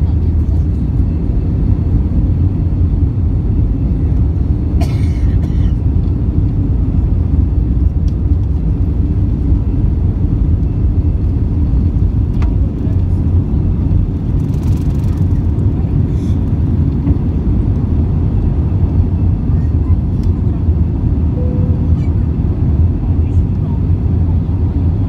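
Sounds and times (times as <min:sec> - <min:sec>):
jet engines at takeoff thrust: 0:00.0 - 0:25.0.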